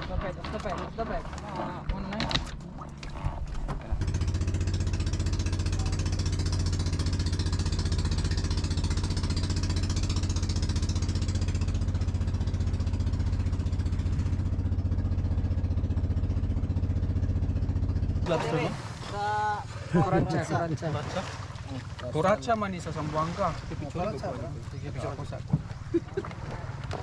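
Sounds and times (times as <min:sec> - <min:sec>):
boat engine chugging: 0:00.0 - 0:27.0.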